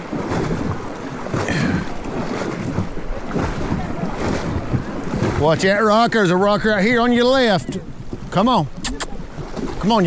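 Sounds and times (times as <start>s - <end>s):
water splashing around horse legs: 0.0s - 10.0s.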